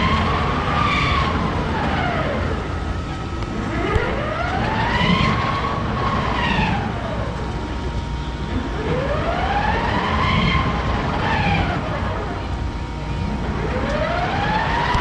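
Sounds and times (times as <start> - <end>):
steady rumble: 0.0 - 15.0
wailing siren: 0.0 - 15.0.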